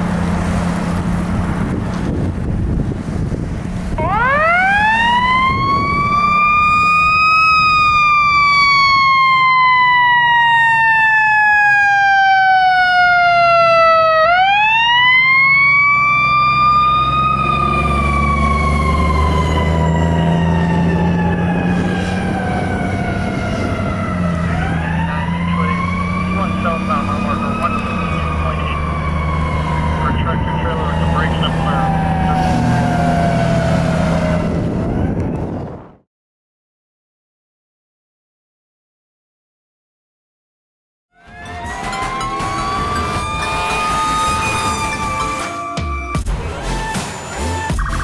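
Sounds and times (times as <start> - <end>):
fire engine siren wailing: 0.0 - 35.9, 41.1 - 48.0
truck engine rumble: 0.0 - 36.0, 41.2 - 48.0.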